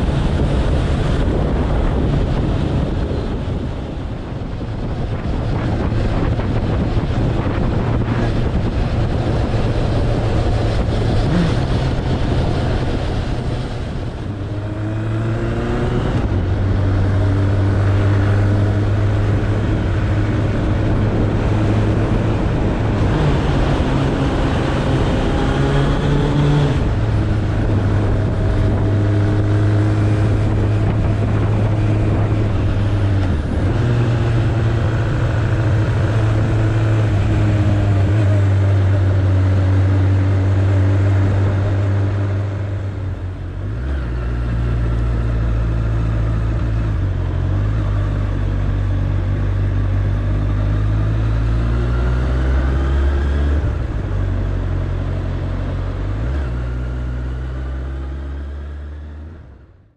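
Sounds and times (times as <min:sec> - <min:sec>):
motorcycle engine riding: 0:00.0 - 0:59.6.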